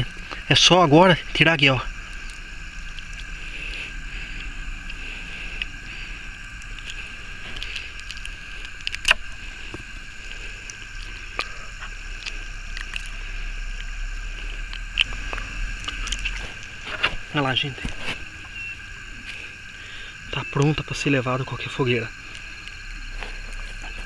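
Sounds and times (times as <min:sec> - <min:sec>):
night chorus of animals calling: 0:00.0 - 0:24.0.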